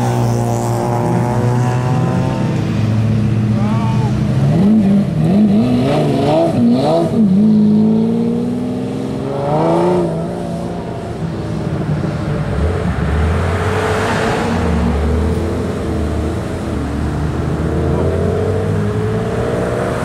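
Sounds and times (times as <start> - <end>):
sports car engine revving: 0.0 - 20.0.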